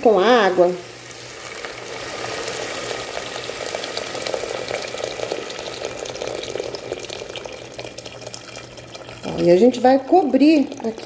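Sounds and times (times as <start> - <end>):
water pouring into a pot: 0.9 - 11.0.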